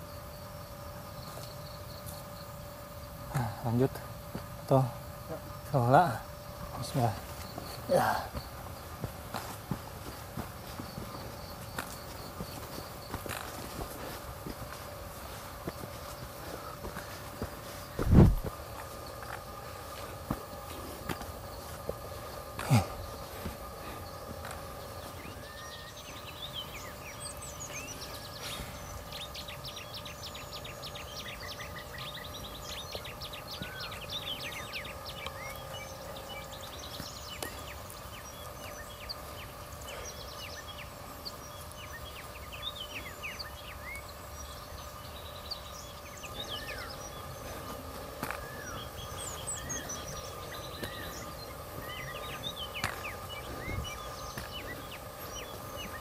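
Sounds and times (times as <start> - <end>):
birds chirping: 0.0 - 56.0
faint hum: 0.0 - 56.0.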